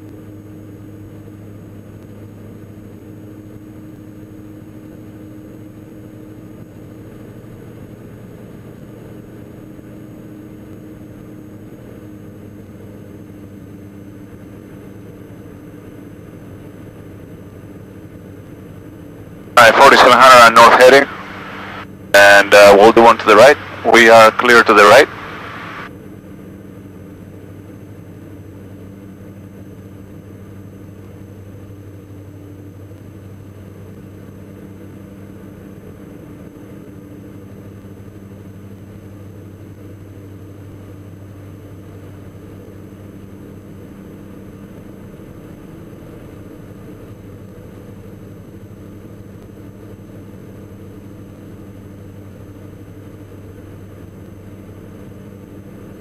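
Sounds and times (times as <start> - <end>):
aircraft engines droning: 0.2 - 56.0.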